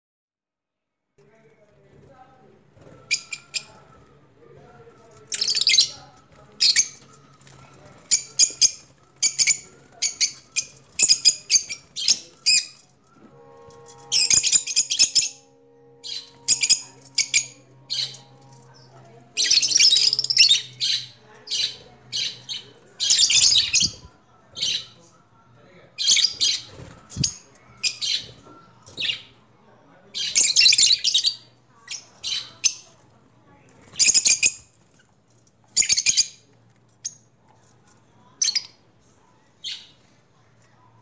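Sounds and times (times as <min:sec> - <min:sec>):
small birds chirping: 0:02.1 - 0:13.1, 0:14.2 - 0:25.0, 0:26.0 - 0:41.0.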